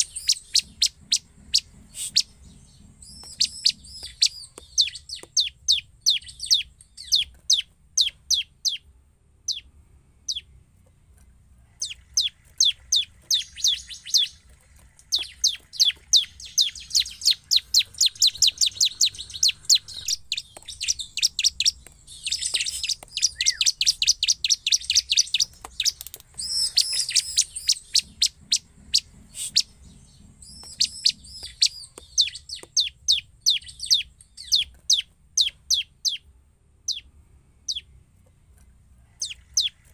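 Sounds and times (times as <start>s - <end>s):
bird calling sharp high chips: 0.0s - 8.8s, 11.8s - 36.2s.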